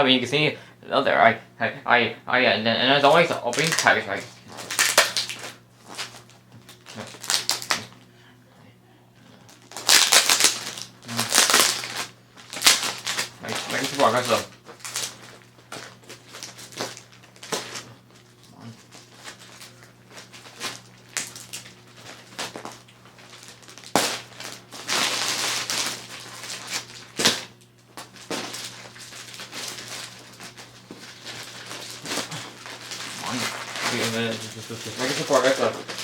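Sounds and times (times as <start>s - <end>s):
faint steady hum: 0.0s - 36.0s
packaging crinkling and rustling: 3.0s - 8.0s, 9.5s - 36.0s
packaging snapping: 3.1s - 8.0s, 9.5s - 36.0s.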